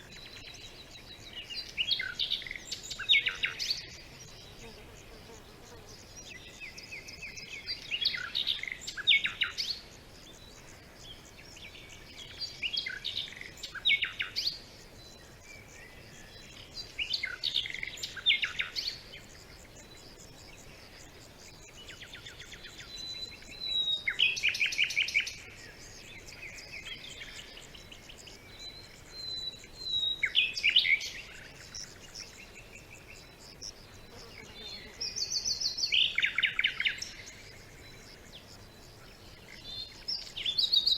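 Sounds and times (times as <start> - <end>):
faint steady hiss: 0.0 - 40.9
songbirds singing trills: 0.0 - 40.9.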